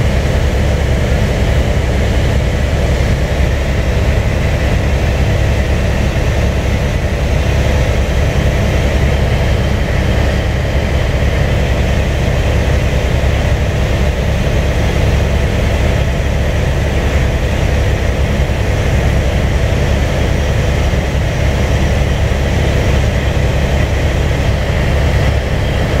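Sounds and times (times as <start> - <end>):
helicopter low drone from cabin: 0.0 - 26.0.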